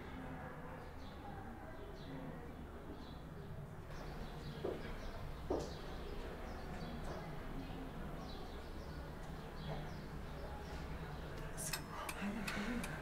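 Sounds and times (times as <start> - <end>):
low hum of room tone: 0.0 - 13.0.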